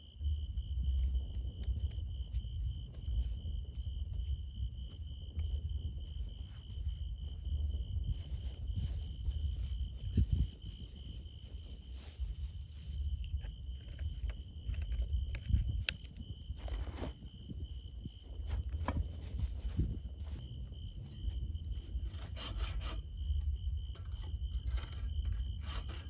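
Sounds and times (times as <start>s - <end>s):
insects trilling: 0.0s - 26.0s
low uneven rumble: 0.0s - 26.0s.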